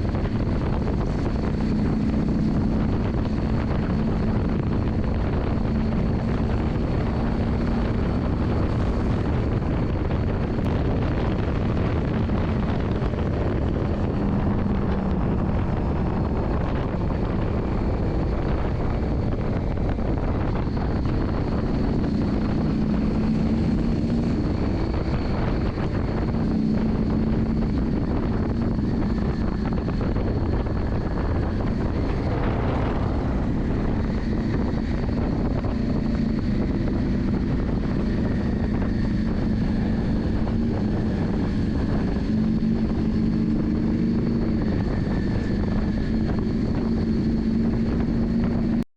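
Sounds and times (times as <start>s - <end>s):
motorcycle engine running: 0.0s - 48.8s
wind noise on microphone: 0.0s - 48.9s.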